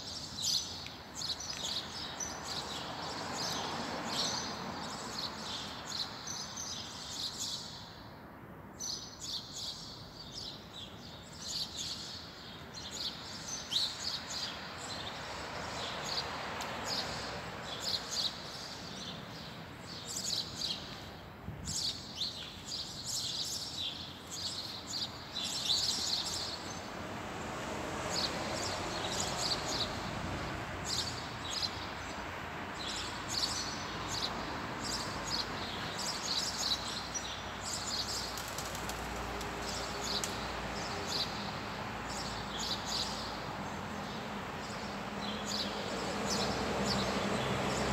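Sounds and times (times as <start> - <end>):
small birds chirping: 0.0 - 8.0, 8.8 - 26.9, 30.8 - 47.9
outdoor background noise: 0.0 - 47.9.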